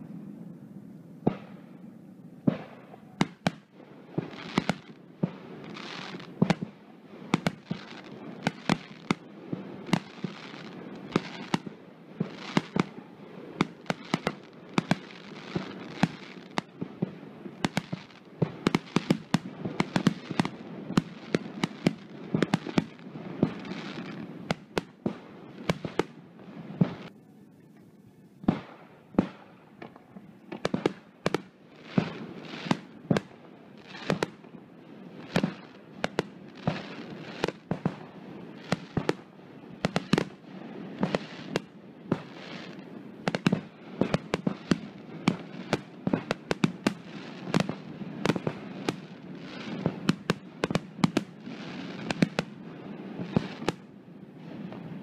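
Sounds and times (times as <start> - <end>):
fireworks bursting with crackling: 1.2 - 55.0.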